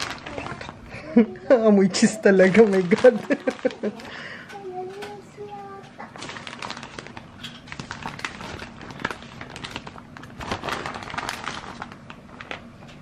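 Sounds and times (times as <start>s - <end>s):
handling clicks and crinkles: 0.0s - 0.8s, 2.2s - 13.0s.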